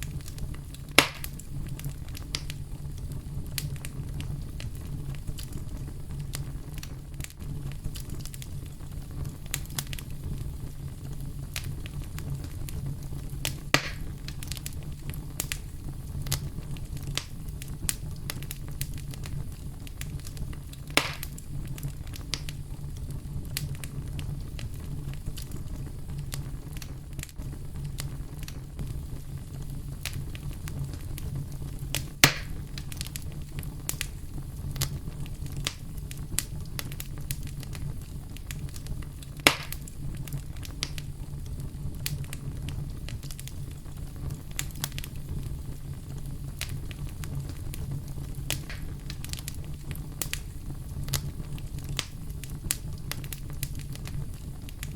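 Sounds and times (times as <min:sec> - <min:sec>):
campfire crackling: 0:00.0 - 0:54.9
fire popping: 0:00.0 - 0:54.9.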